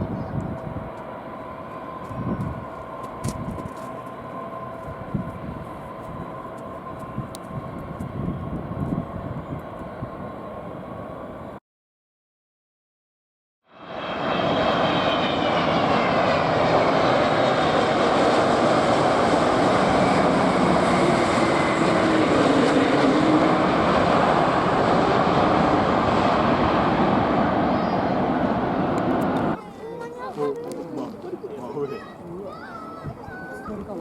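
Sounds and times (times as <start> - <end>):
airliner roaring past: 0.0 - 11.6, 13.7 - 34.0.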